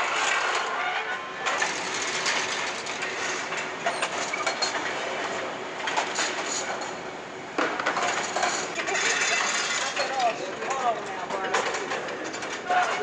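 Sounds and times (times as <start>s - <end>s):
factory machinery din: 0.0s - 13.0s.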